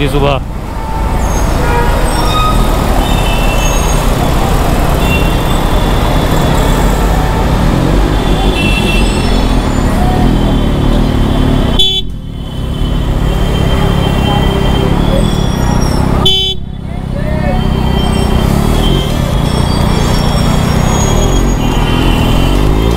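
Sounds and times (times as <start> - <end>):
vehicle horns tooting: 0.8 - 4.1, 4.9 - 16.8, 17.4 - 22.9.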